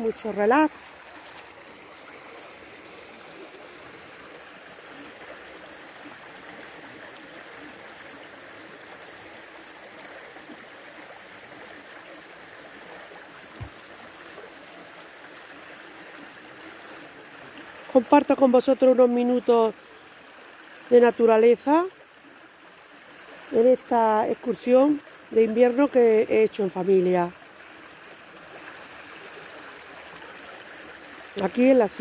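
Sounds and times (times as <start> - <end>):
creek running over stones: 0.0 - 32.0.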